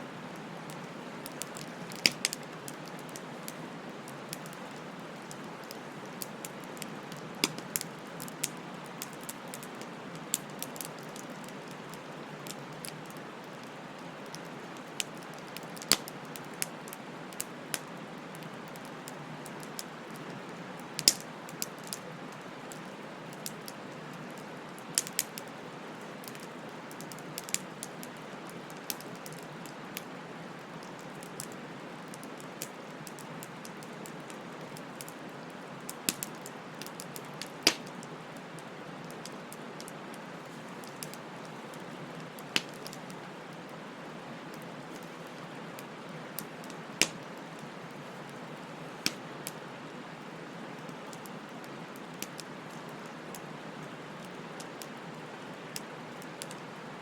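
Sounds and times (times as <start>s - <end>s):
bonfire crackling and popping: 0.2s - 56.8s.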